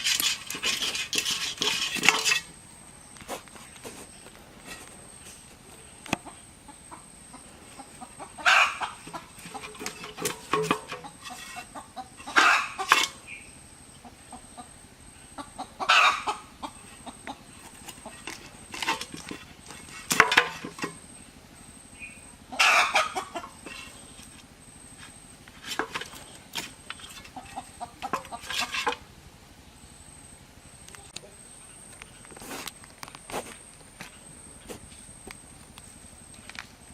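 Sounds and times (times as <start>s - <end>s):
chickens clucking and squawking: 0.0s - 29.8s.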